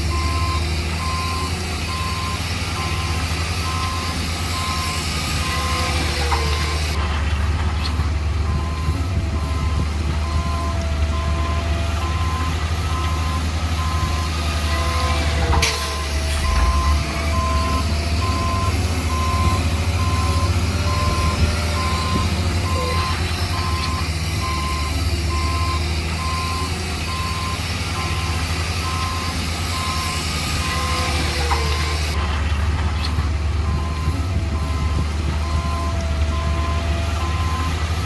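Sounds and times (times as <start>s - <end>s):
diesel engine drone: 0.0s - 38.0s
reversing alarm beeping: 0.1s - 7.0s, 8.5s - 32.2s, 33.6s - 37.8s.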